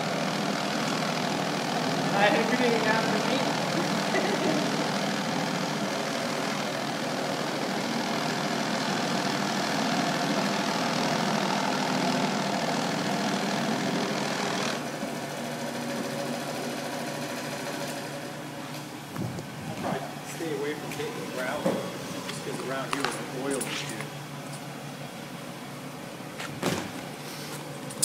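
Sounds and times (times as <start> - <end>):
rug cleaning machine droning: 0.0 - 28.0.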